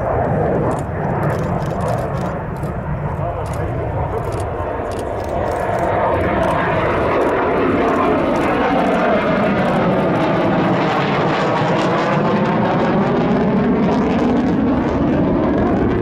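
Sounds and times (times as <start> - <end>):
jet engine rumble overhead: 0.0 - 16.0.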